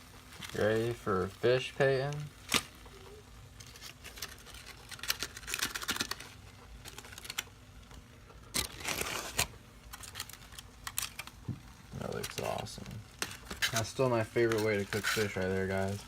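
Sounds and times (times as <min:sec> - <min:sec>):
aluminum foil crinkling: 0:00.1 - 0:16.0.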